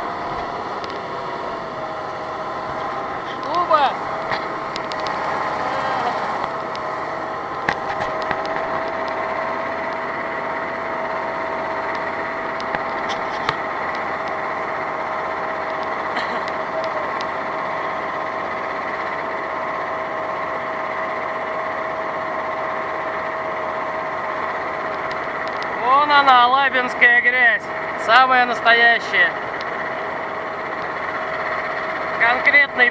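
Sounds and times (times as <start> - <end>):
vehicle engine whining: 0.0 - 32.9.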